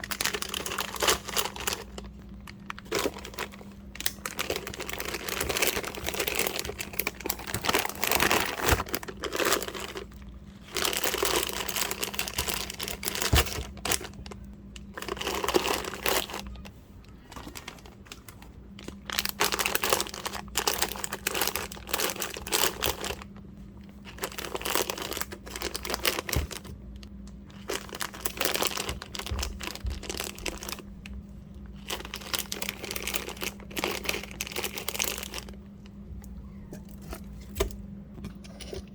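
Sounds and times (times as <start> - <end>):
packaging crinkling: 0.0 - 36.0
steady low hum: 0.0 - 38.9.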